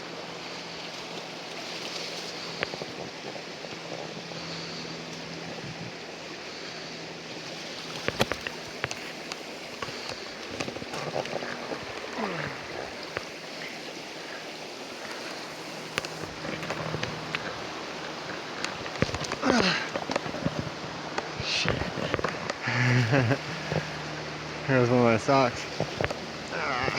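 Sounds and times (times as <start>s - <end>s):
creek water over rocks: 0.0s - 26.9s.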